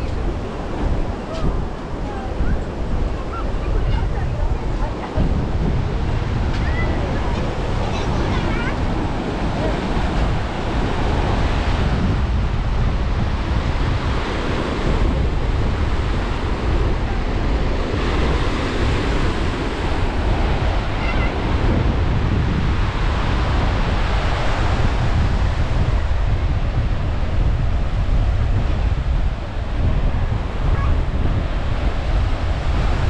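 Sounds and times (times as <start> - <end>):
ocean surf breaking: 0.0 - 33.0
wind buffeting microphone: 0.0 - 33.0.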